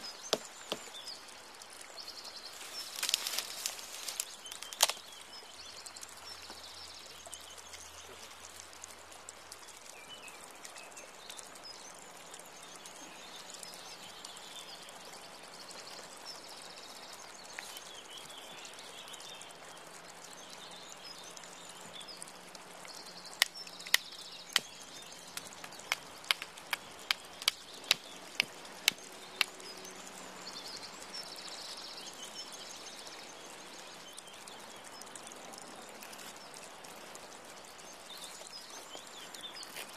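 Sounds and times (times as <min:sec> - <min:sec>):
outdoor ambience: 0:00.0 - 0:39.9.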